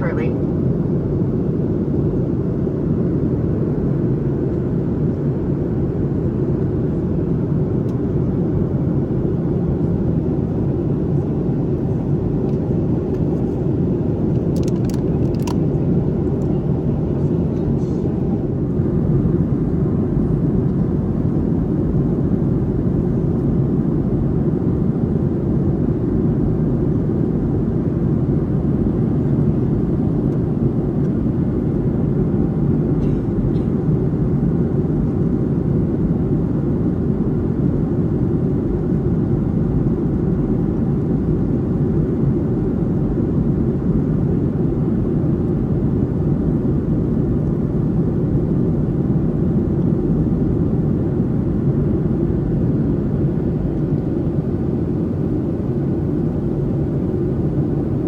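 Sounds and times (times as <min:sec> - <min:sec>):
airliner cabin roar: 0:00.0 - 0:25.1, 0:25.8 - 0:58.0.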